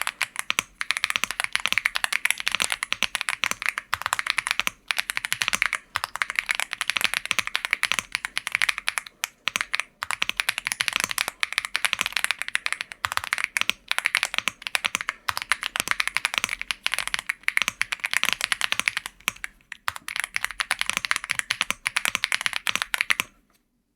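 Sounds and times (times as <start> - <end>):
fast typing on a keyboard: 0.0 - 23.4.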